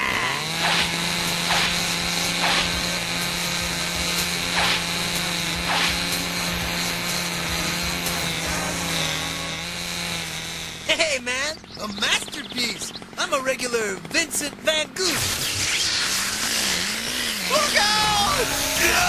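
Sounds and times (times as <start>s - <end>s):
saw cutting strokes: 0.0s - 12.3s, 14.0s - 19.0s
cartoon power saw running: 0.0s - 19.0s.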